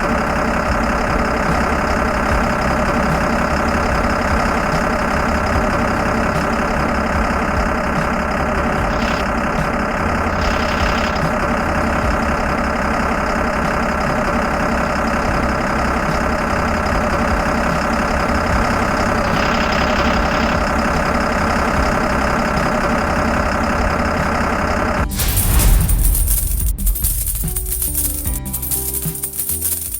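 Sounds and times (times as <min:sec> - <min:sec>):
truck engine idling: 0:00.0 - 0:29.9.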